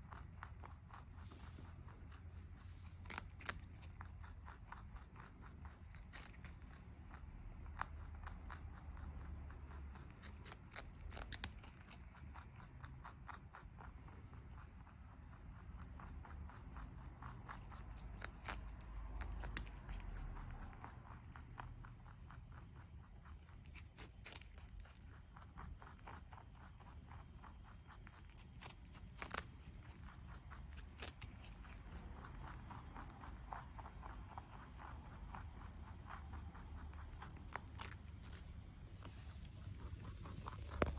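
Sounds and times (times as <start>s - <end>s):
rabbit chewing crunchy stalk: 0.0s - 40.9s.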